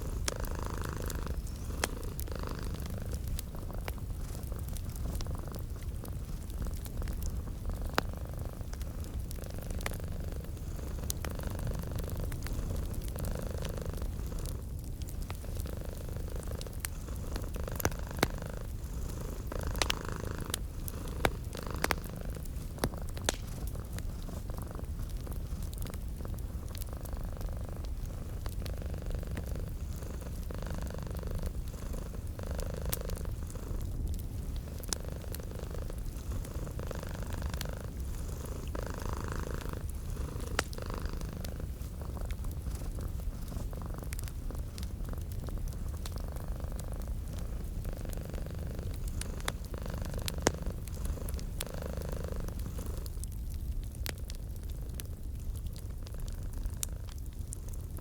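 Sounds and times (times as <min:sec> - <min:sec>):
cat purring: 0:00.0 - 0:58.0
fireplace crackling: 0:00.0 - 0:58.0.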